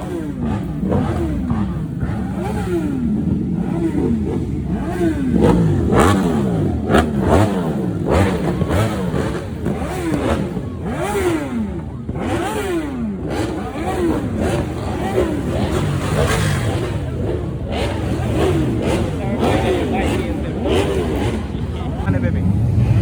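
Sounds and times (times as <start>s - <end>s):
engines revving: 0.0s - 23.0s.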